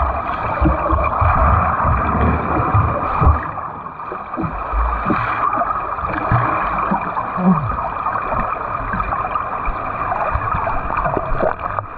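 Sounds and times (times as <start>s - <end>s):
water churning around swimmer: 0.0s - 11.9s.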